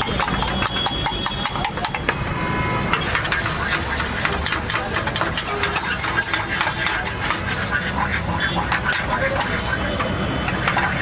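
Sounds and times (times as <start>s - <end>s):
spoon clinking on steel bowls: 0.0s - 2.0s, 3.0s - 11.0s
low rumble of traffic: 0.0s - 11.0s.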